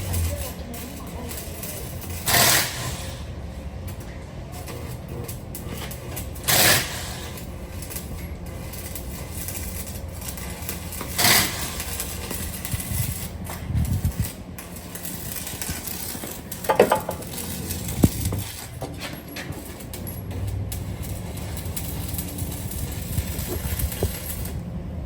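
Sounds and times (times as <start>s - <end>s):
metal clanks on exhaust pipe: 0.0s - 24.6s
steady low hum: 0.0s - 25.0s.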